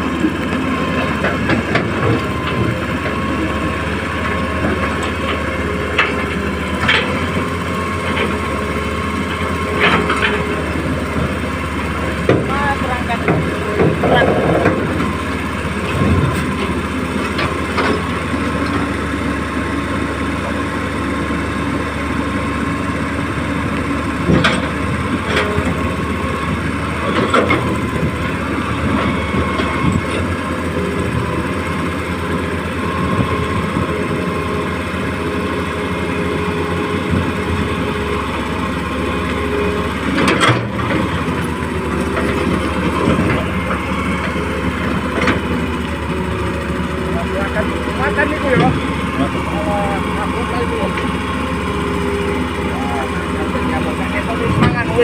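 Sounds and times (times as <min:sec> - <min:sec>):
excavator clanks: 0:00.0 - 0:55.0
excavator engine running: 0:00.0 - 0:55.0.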